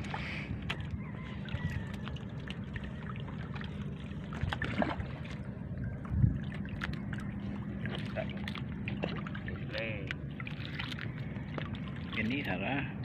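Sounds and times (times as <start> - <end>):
boat engine hum: 0.0 - 13.0
water sloshing: 0.0 - 13.0.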